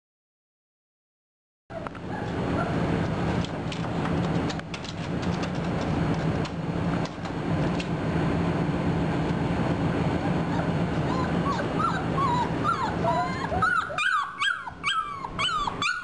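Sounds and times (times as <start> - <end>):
steady low hum: 1.7 - 16.0.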